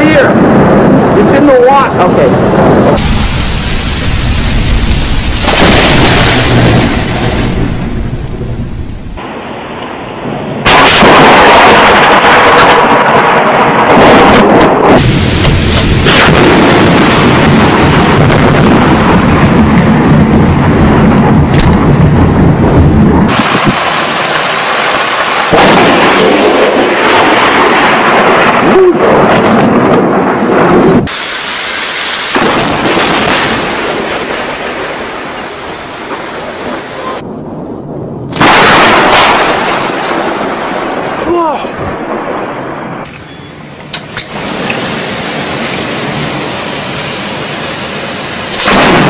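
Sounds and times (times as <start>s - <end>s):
thunder crack: 0.0s - 43.1s, 44.4s - 49.0s
low thunder rumble: 0.0s - 43.8s, 44.4s - 49.0s
rain: 0.0s - 49.0s.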